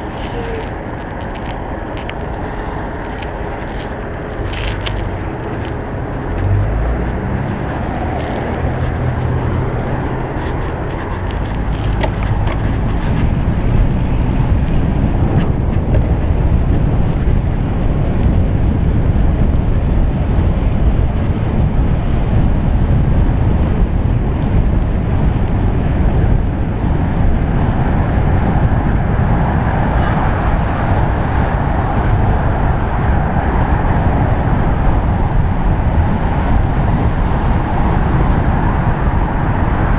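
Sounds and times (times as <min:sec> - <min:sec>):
bicycle tyre noise: 0:00.0 - 0:39.9
street traffic: 0:00.0 - 0:39.9
wind buffeting microphone: 0:00.0 - 0:39.9.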